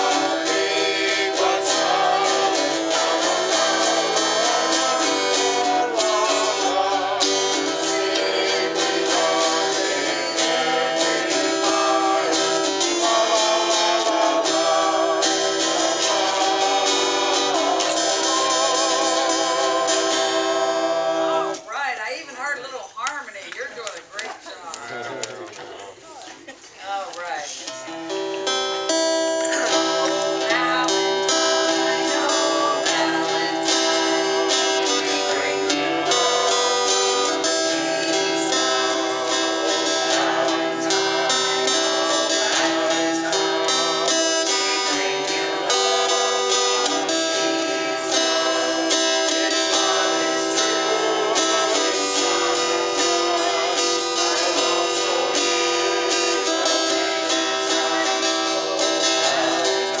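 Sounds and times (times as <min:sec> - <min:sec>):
acoustic guitar: 0:00.0 - 1:00.0.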